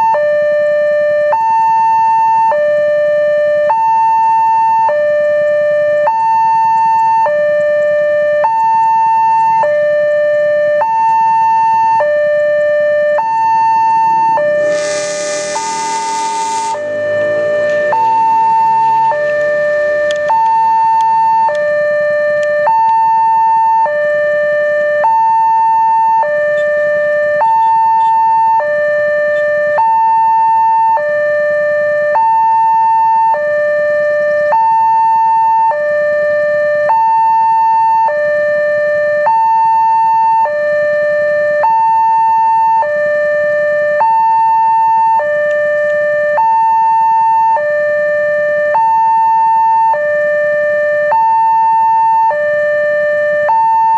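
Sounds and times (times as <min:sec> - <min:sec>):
level crossing two-tone alarm: 0:08.4 - 0:38.4, 0:39.2 - 0:53.9.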